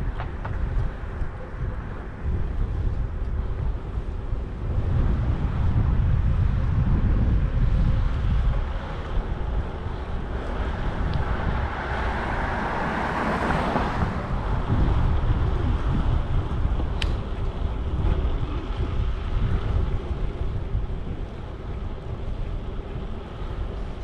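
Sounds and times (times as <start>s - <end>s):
street and traffic noise: 0.0s - 24.0s
wind buffeting microphone: 0.0s - 24.0s.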